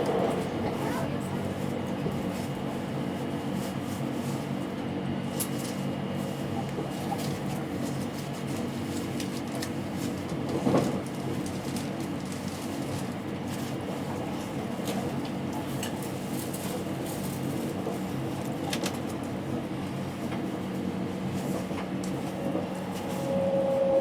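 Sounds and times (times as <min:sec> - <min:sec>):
train running hum and whine: 0:00.0 - 0:24.0.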